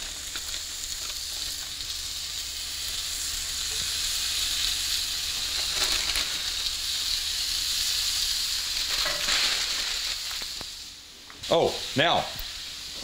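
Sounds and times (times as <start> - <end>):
patties sizzling in skillet: 0.0 - 13.0.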